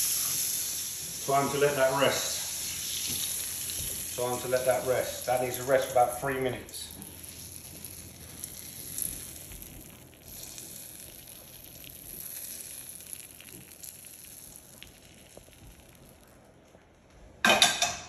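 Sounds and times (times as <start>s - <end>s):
butter sizzling on steak: 0.0s - 16.3s.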